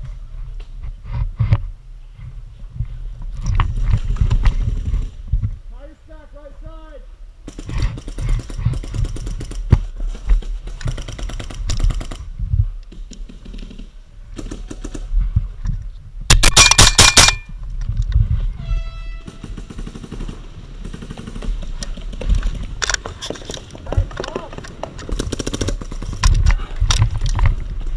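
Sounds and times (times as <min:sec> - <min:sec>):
knocks and rustle of movement: 0:00.0 - 0:05.7, 0:07.5 - 0:18.7, 0:19.4 - 0:27.9.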